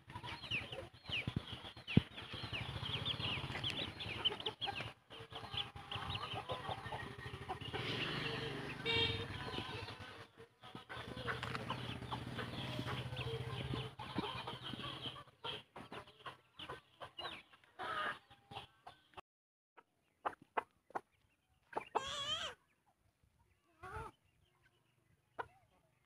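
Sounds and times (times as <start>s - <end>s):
chickens clucking: 0.0s - 19.2s, 19.8s - 25.9s.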